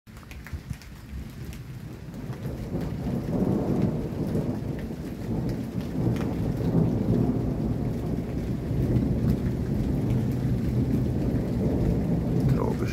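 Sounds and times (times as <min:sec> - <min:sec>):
steady rain falling: 0:00.1 - 0:12.9
thunder rumbling: 0:00.6 - 0:12.9.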